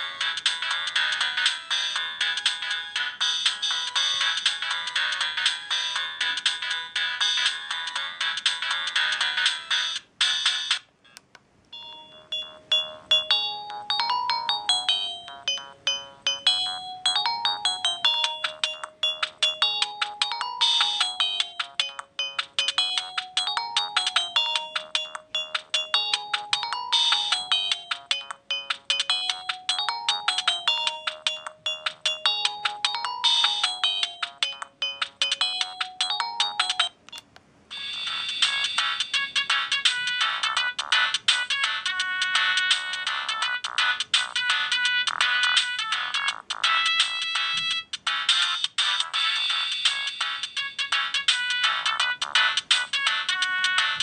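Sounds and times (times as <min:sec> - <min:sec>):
synthesized ringtone melody: 0:00.0 - 0:10.8, 0:11.8 - 0:54.0.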